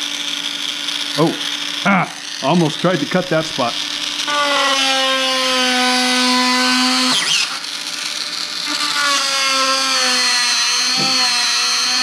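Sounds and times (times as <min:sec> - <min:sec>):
rotary tool cutting plywood: 0:00.0 - 0:12.0.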